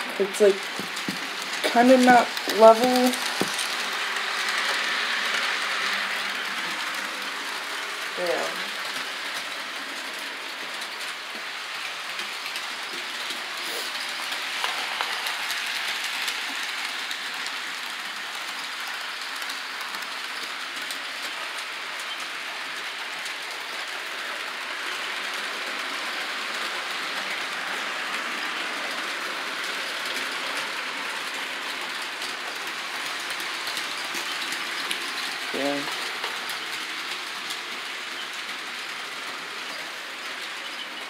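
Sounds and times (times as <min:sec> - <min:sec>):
model train running on track: 0:00.0 - 0:41.0.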